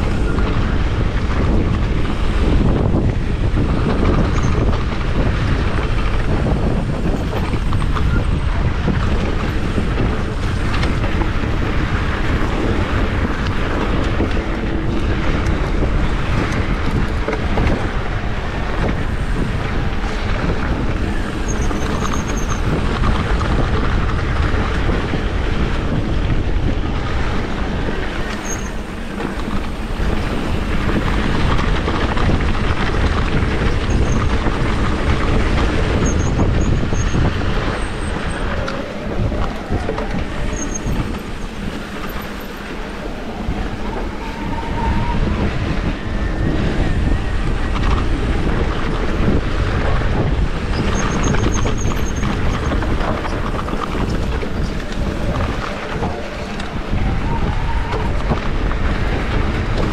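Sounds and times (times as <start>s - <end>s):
bike tyre rumble and rattling: 0.0s - 59.9s
wind buffeting microphone: 0.0s - 59.9s.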